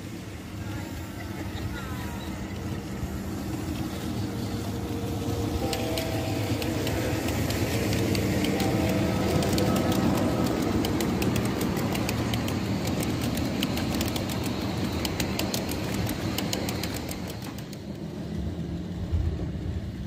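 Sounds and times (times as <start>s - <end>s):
low mechanical hum: 0.0s - 20.0s
small wheels clattering over rail joints: 0.7s - 18.3s.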